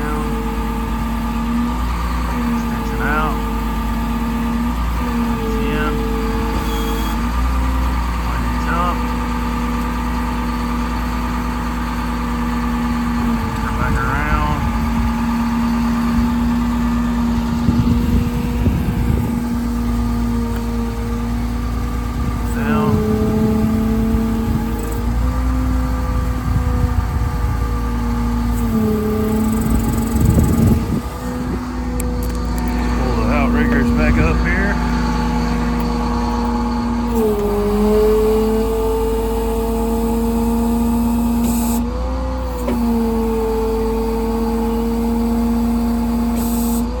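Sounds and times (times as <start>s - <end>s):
pitched whine: 0.0s - 45.1s
diesel engine rumble: 0.0s - 47.0s.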